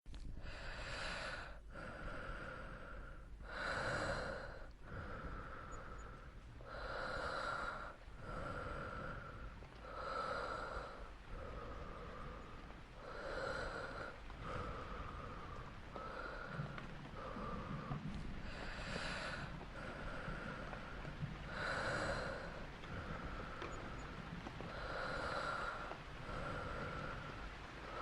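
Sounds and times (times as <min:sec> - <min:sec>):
slow human breathing: 0:00.1 - 0:28.0.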